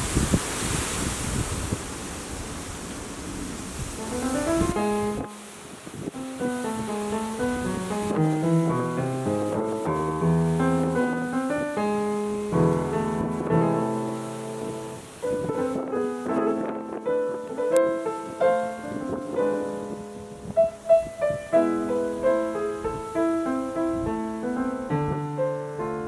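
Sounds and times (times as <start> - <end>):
piano chords: 4.0 - 26.0.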